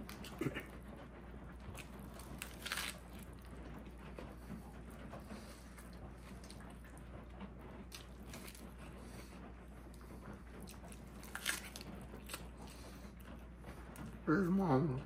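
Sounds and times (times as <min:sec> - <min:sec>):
wet chewing sounds: 0:00.0 - 0:14.2.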